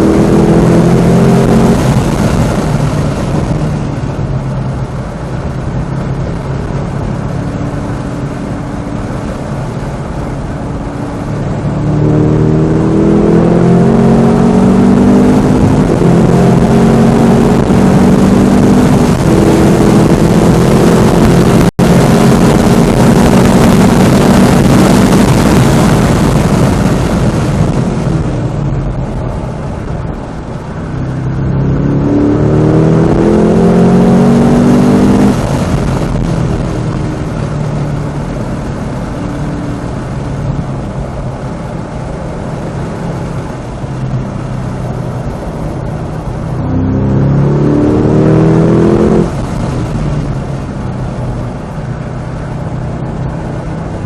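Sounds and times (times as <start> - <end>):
car engine accelerating hard: 0.0 - 54.0
wind and tyre noise: 0.0 - 54.0.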